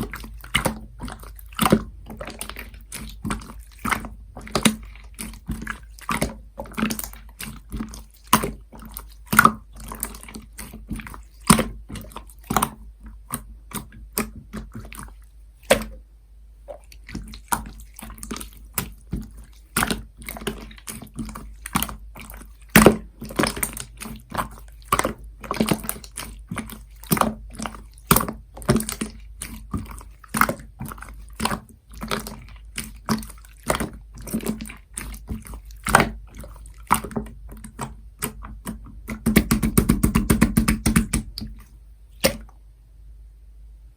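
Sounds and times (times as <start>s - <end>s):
slime squished by hand: 0.0s - 16.0s, 16.7s - 42.5s.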